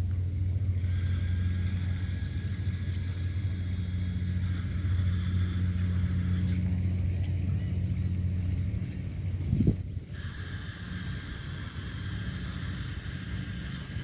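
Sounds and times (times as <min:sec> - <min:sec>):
faint high whine: 0:00.0 - 0:14.0
low engine hum: 0:00.0 - 0:14.0.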